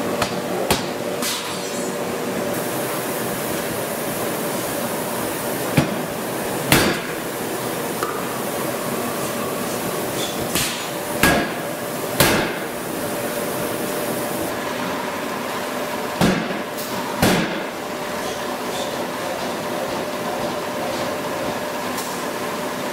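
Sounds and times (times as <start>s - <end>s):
forge shop hum: 0.0s - 22.9s.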